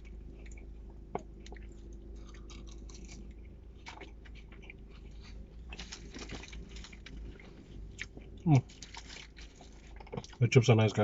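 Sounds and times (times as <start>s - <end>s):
person chewing food: 0.0s - 10.4s
steady low hum: 0.0s - 11.0s.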